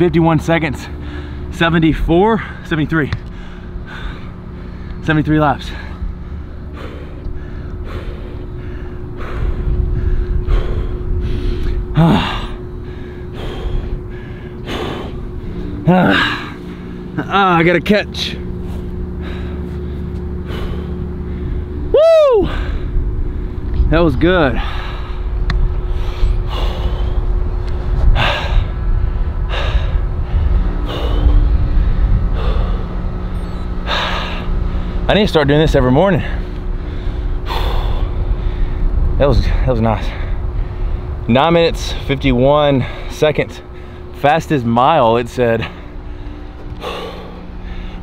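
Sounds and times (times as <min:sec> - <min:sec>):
steady low rumble: 0:00.0 - 0:48.0
man breathing hard: 0:00.9 - 0:17.2, 0:18.4 - 0:35.1, 0:36.2 - 0:41.3, 0:42.7 - 0:44.2, 0:45.6 - 0:48.0.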